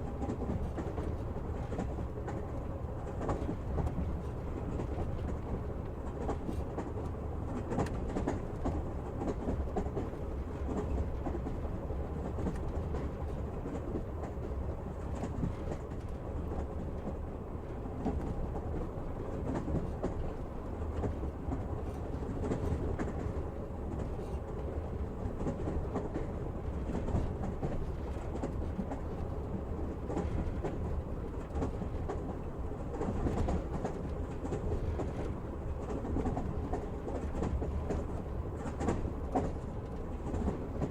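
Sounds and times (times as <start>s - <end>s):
train rumbling: 0.0s - 40.9s.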